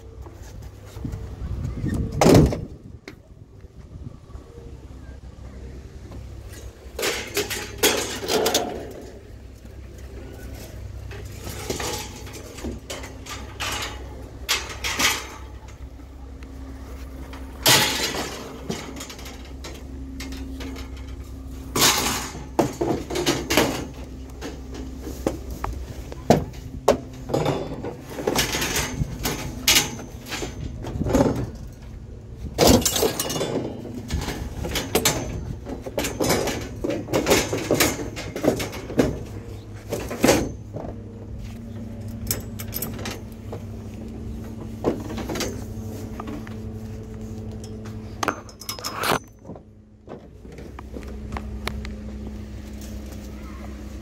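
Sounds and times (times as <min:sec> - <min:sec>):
steady low hum: 0:00.0 - 0:54.0
scrap metal clanking and rattling: 0:06.1 - 0:54.0.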